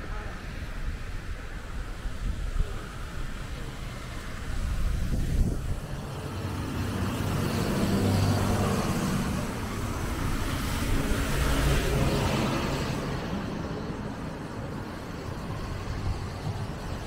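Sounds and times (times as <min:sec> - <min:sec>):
steady traffic noise: 0:00.0 - 0:17.0.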